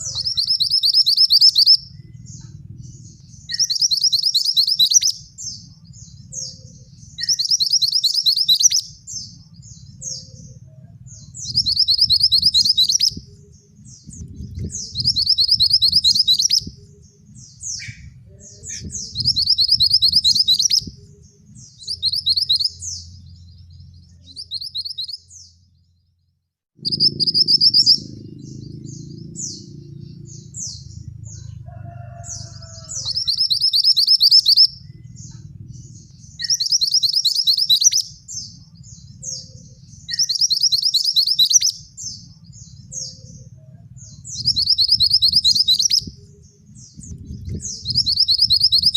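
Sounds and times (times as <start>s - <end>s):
songbird trilling: 0.0s - 25.6s, 26.8s - 48.9s
bird chirps: 0.0s - 26.2s, 26.8s - 48.9s
low background rumble: 0.0s - 48.9s.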